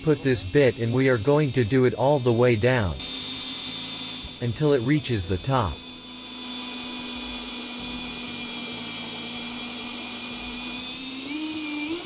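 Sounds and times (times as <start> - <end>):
cordless drill cutting into wood: 0.0 - 12.0.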